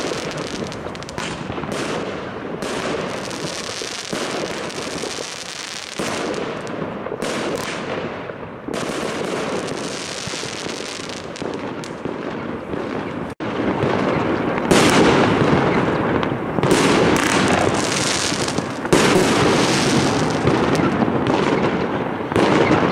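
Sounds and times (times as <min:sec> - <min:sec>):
fireworks crackling and banging: 0:00.0 - 0:22.9.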